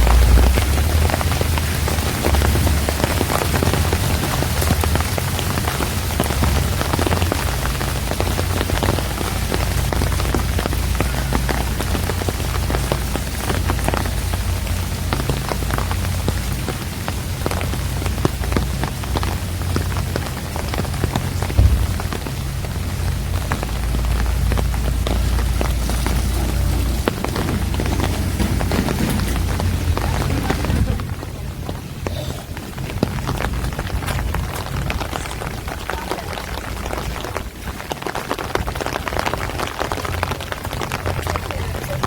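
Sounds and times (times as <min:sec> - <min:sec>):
low rumble: 0:00.0 - 0:37.9
rain falling: 0:00.0 - 0:42.0
raindrops hitting close by: 0:00.0 - 0:42.0.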